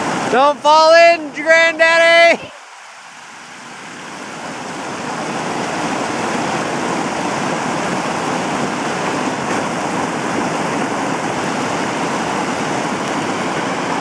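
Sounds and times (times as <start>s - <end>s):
creek rushing over rocks: 0.0s - 14.0s.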